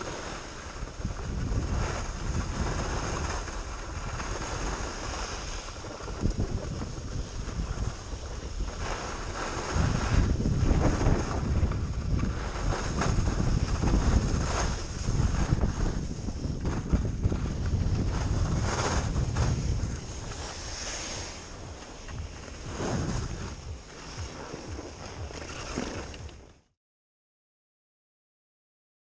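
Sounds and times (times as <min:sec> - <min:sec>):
wind buffeting microphone: 0:00.0 - 0:26.5
skis scraping on snow: 0:00.0 - 0:26.6.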